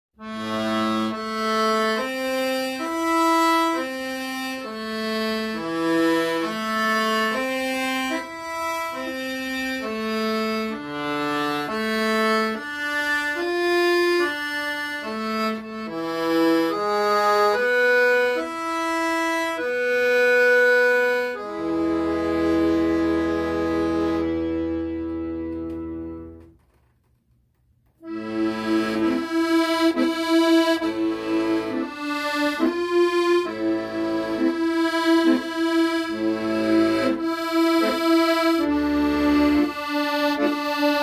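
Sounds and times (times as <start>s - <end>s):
accordion slow melody: 0.2s - 27.0s, 28.0s - 41.0s.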